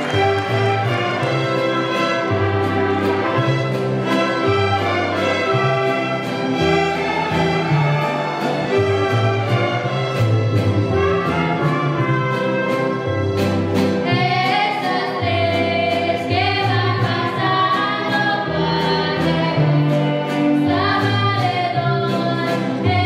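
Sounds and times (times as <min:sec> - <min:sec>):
strummed guitar: 0:00.0 - 0:23.0.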